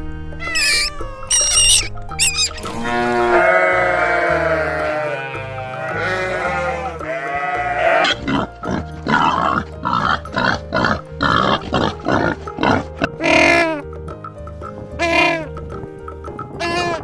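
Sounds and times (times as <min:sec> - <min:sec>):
background music: 0:00.0 - 0:17.0
farm animal calls: 0:00.4 - 0:13.8, 0:15.0 - 0:15.5, 0:16.6 - 0:17.0.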